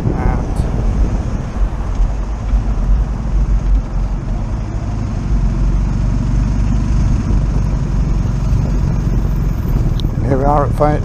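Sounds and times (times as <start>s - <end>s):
motorcycle engine rumbling: 0.0s - 11.0s
wind and road noise: 0.0s - 11.0s.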